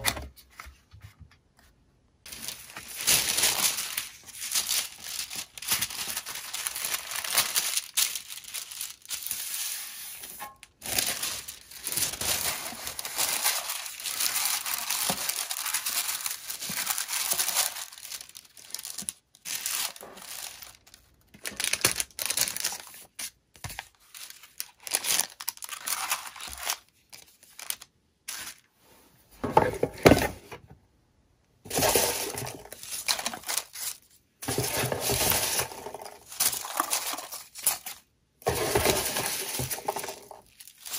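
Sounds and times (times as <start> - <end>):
packaging crinkling: 2.3 - 28.5, 31.7 - 40.9.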